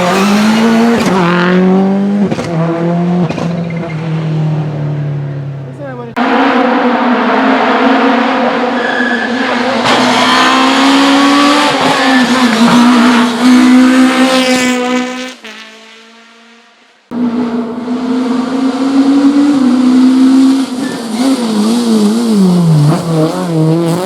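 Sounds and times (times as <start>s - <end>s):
rally car engine at hard throttle: 0.0s - 24.0s.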